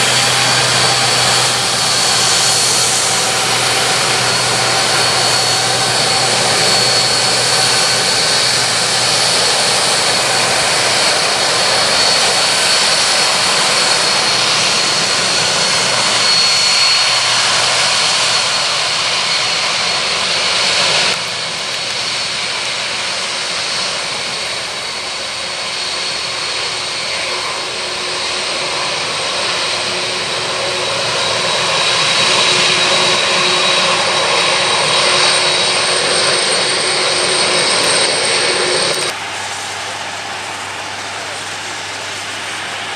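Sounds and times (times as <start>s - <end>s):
broad rush of noise: 0.0s - 42.9s
jet engines whining: 0.0s - 42.9s.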